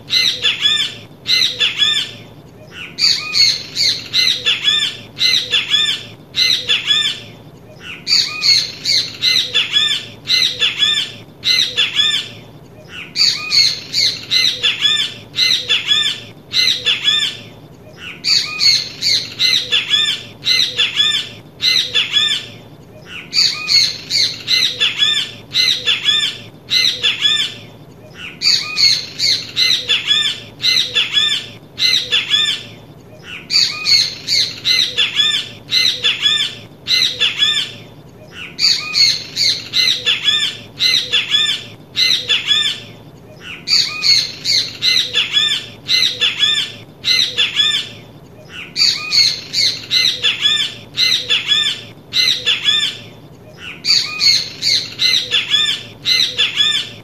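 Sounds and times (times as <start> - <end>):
bird calling loudly: 0.0 - 57.0
low background hiss: 0.0 - 57.0.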